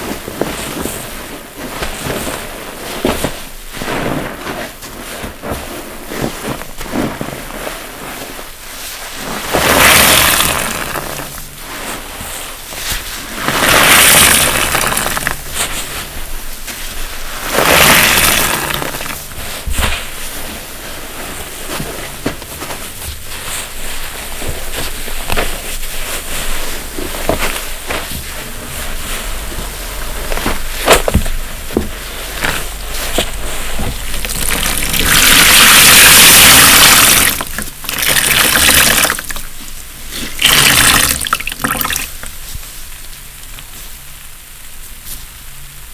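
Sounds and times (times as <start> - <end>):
wet sponge crackles: 0.0 - 45.9
water wringing out of sponges: 1.6 - 42.5.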